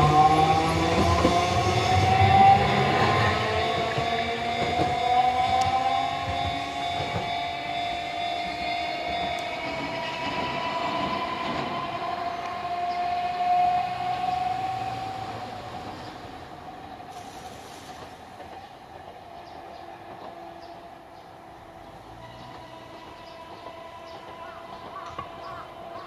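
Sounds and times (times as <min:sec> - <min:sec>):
electric train whine: 0:00.0 - 0:26.0
train wheels rumbling on rails: 0:00.0 - 0:26.0.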